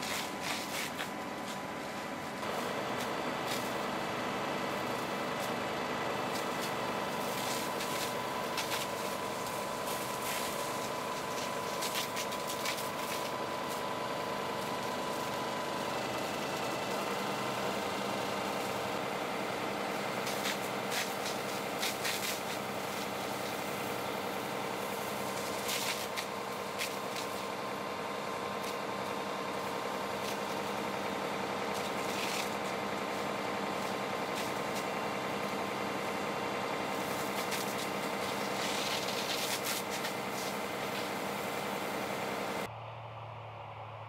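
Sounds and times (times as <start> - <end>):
heavy vehicle engine running: 0.0 - 44.0.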